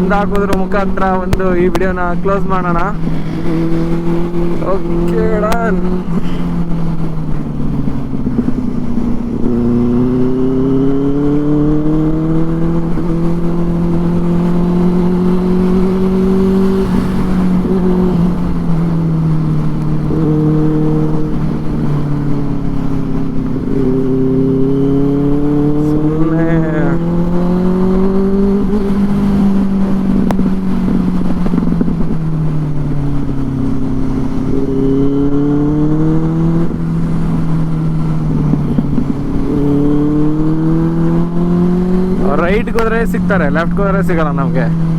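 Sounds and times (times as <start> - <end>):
motorcycle engine while riding: 0.0 - 44.9
wind on microphone: 0.0 - 44.9.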